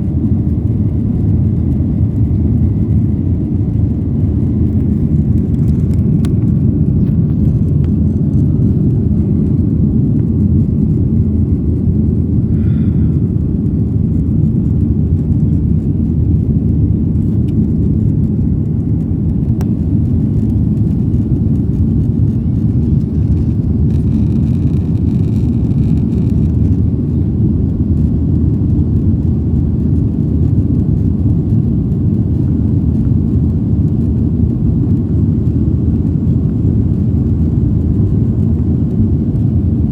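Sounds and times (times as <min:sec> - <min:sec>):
airliner engine rumble in cabin: 0:00.0 - 0:39.9.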